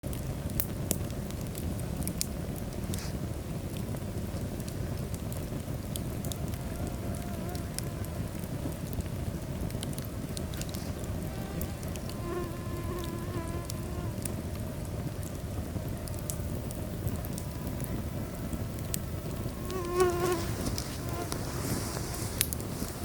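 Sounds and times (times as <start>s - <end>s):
fire crackles and pops: 0.0s - 23.0s
low rumble of flames: 0.0s - 23.0s.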